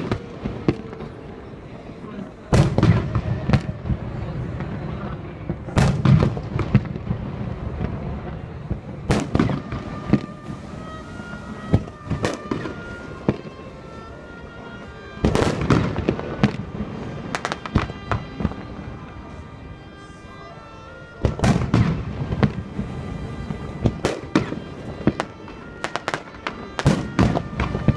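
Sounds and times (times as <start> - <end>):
fireworks bangs: 0.0 - 1.4, 2.1 - 14.1, 15.2 - 19.4, 21.2 - 27.9
music: 0.0 - 27.9.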